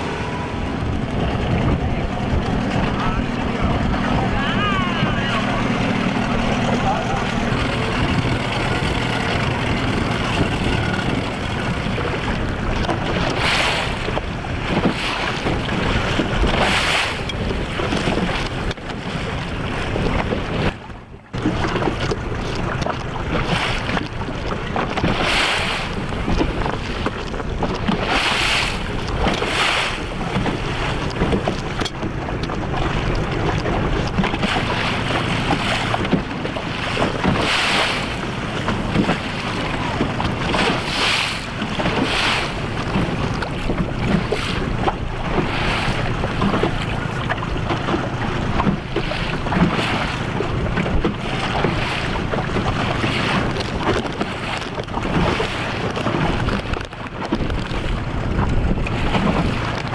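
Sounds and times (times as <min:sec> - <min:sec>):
water rushing: 0:00.0 - 0:59.9
water splashing against boat: 0:00.0 - 0:59.9
wind buffeting microphone: 0:00.0 - 0:59.9.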